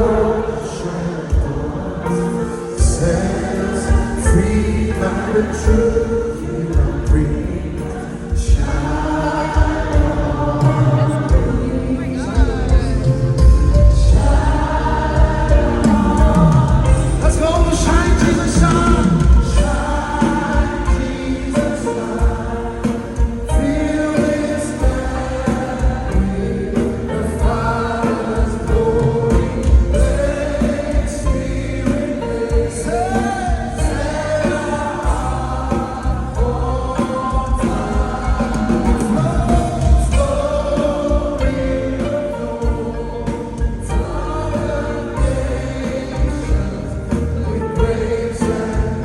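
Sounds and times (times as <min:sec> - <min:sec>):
band with strong bass and beat: 0:00.0 - 0:49.0
choir singing: 0:00.0 - 0:49.0.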